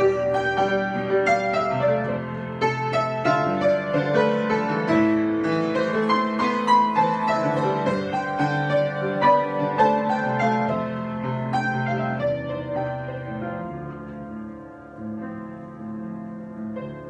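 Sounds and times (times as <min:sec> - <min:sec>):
piano improvisation: 0:00.0 - 0:17.0.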